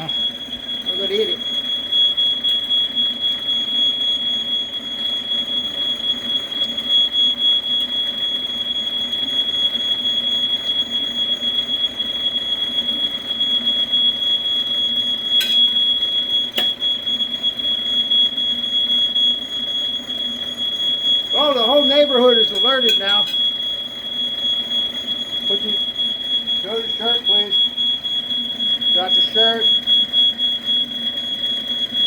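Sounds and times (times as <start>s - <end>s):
smoke alarm high-pitched tone: 0.0s - 32.0s.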